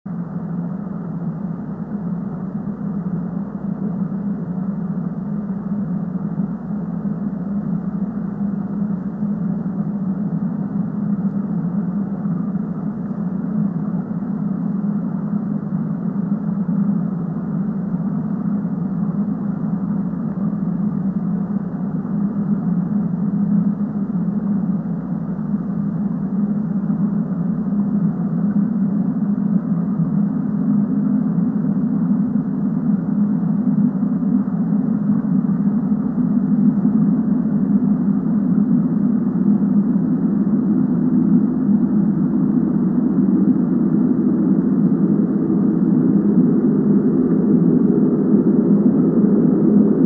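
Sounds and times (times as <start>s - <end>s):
muffled low rumbling drone: 0.1s - 50.0s.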